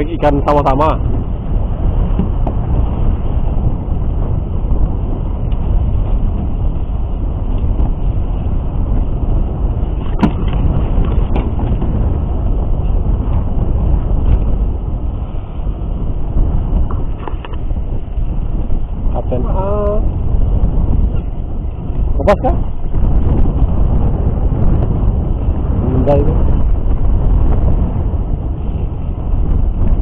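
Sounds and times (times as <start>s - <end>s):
boat engine rumble: 0.0s - 30.0s.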